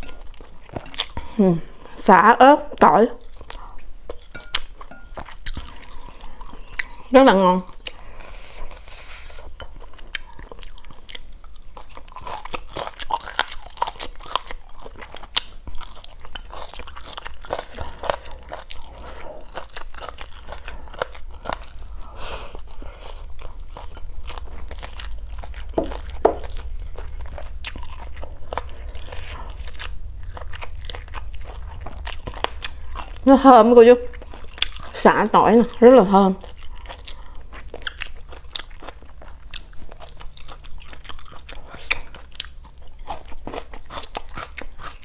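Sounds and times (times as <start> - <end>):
person chewing food: 0.0 - 2.0, 3.2 - 45.0.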